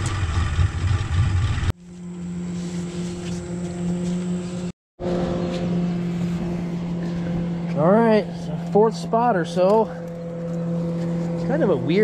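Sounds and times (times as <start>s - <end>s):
boat engine hum: 0.0s - 12.0s.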